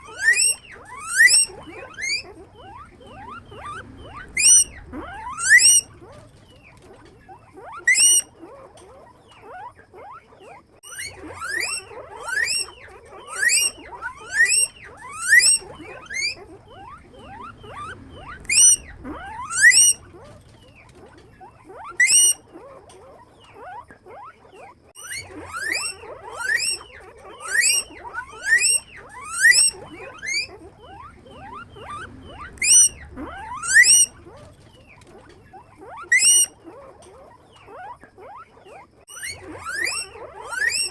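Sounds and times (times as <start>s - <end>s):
guinea pig squeaking: 0.0s - 40.9s.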